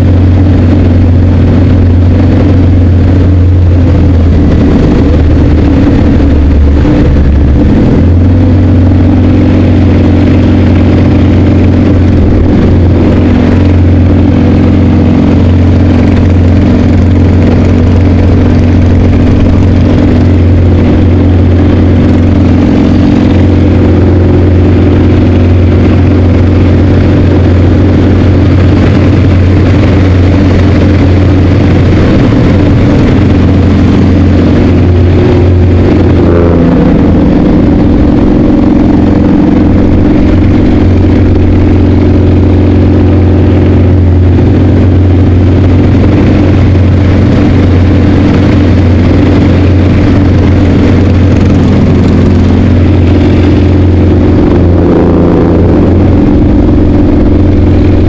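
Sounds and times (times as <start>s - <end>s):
radial engine and propeller drone: 0.0s - 58.0s.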